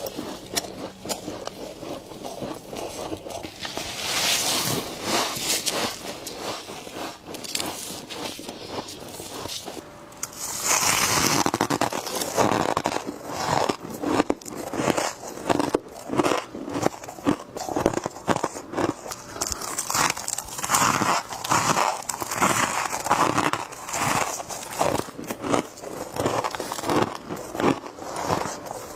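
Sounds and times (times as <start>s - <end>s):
crisp crunches of chewing frost: 0.0s - 28.9s.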